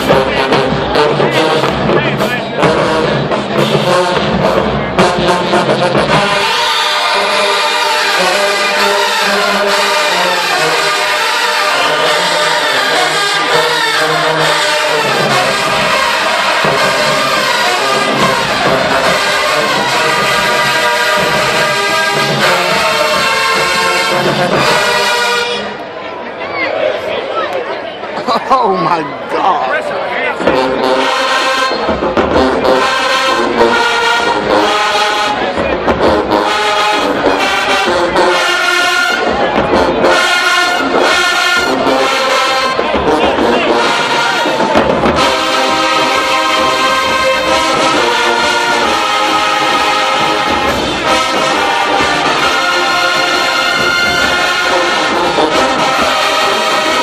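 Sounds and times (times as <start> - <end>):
steady drumming: 0.0 - 6.7, 12.9 - 25.2, 30.3 - 57.0
brass section playing tune: 0.0 - 26.0, 30.4 - 57.0.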